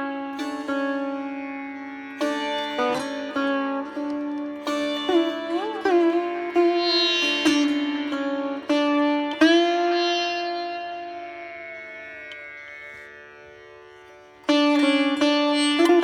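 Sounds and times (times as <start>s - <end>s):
plucked string instrument music: 0.0s - 16.0s.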